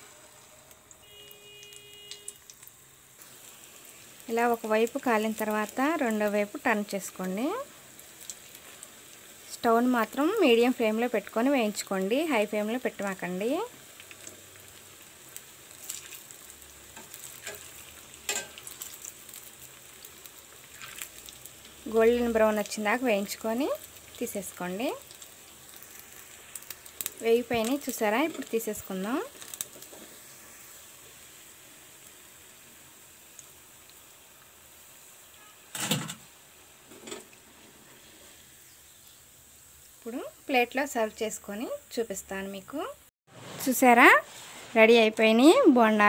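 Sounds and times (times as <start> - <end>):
batter deep-frying in oil: 0.0 - 46.0.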